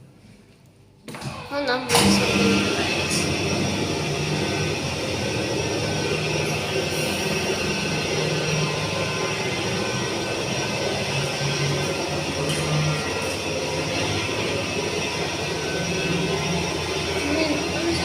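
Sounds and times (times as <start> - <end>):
platform lift motor humming: 1.1 - 18.0.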